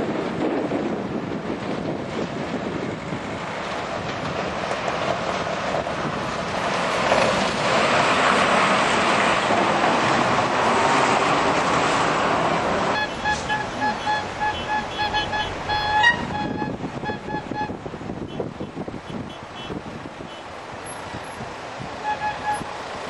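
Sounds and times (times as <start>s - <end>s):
vehicle road noise and wind: 0.0s - 23.0s.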